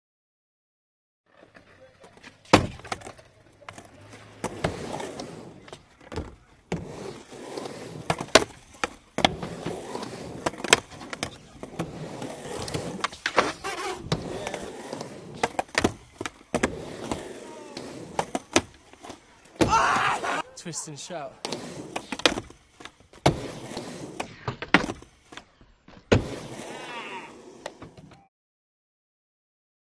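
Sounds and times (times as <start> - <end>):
skateboard wheels rolling on concrete: 1.3 - 28.3.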